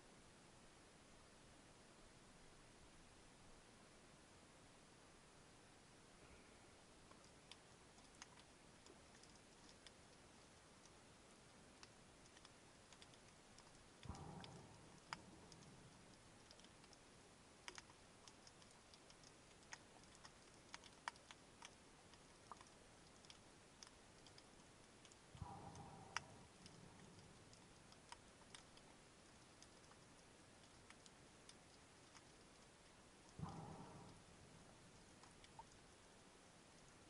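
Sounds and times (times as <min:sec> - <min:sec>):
underwater clicks and crackles: 0:07.0 - 0:37.0.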